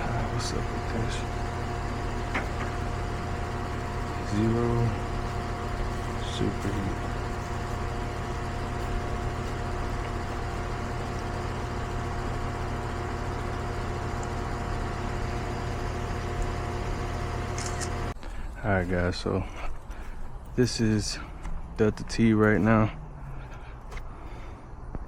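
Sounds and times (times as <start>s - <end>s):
compressor hum: 0.0s - 25.0s
condenser fan noise: 0.0s - 25.0s
constant whine tone: 0.0s - 25.0s.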